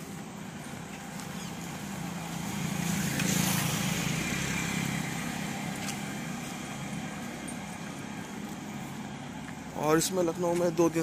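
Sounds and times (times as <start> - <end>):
motorcycle passing by: 0.0 - 10.1.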